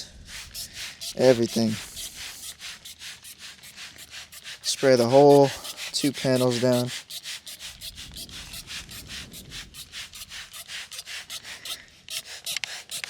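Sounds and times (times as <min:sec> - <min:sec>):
spray bottle hissing spurts: 0:00.0 - 0:13.0.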